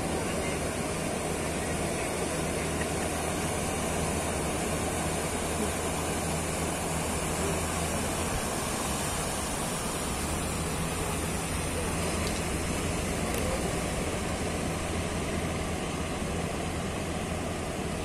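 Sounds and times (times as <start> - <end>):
boat engine drone: 0.0 - 18.0
surf and foaming water rushing: 0.0 - 18.0.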